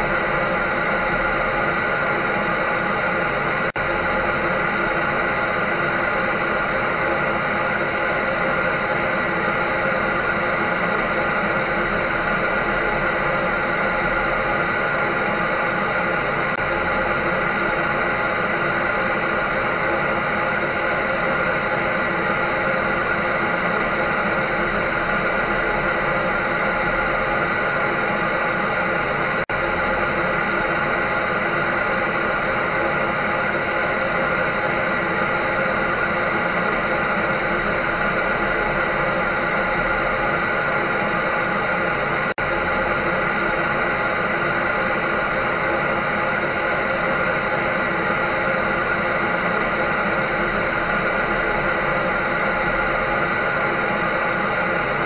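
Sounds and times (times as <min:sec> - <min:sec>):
clothes dryer running: 0:00.0 - 0:55.0.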